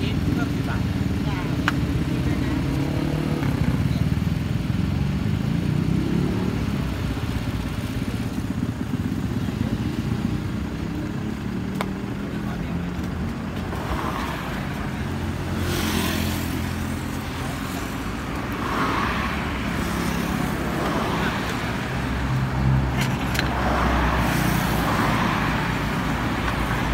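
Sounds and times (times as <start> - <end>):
street traffic rumble: 0.0 - 26.9.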